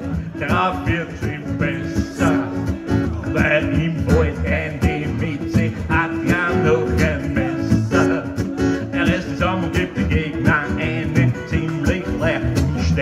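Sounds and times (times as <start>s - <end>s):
electric guitar through amplifier: 0.0s - 13.0s
strummed acoustic guitar: 0.0s - 13.0s.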